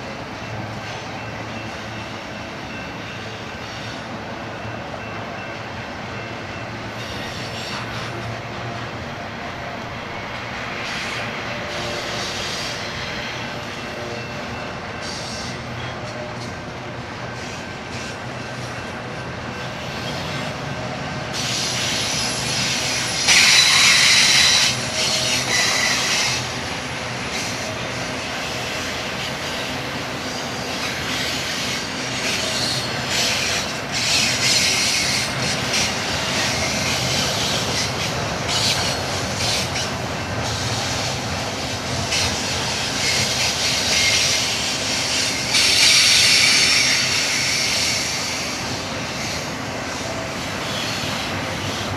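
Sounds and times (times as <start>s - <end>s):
freight train rumbling on rails: 0.0s - 51.9s
train wheel squeal: 0.0s - 51.9s.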